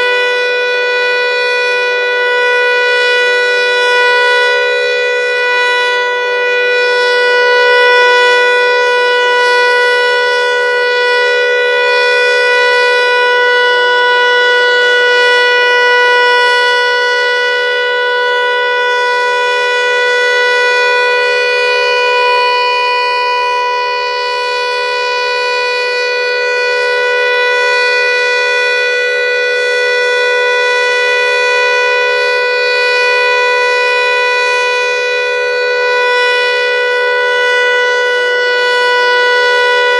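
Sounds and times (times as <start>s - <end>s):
electronic warning siren chord: 0.0s - 39.9s.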